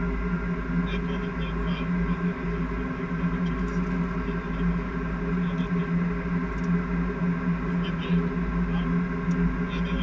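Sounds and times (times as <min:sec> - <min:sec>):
cockpit low rumble: 0:00.0 - 0:10.0
steady hum: 0:00.0 - 0:10.0.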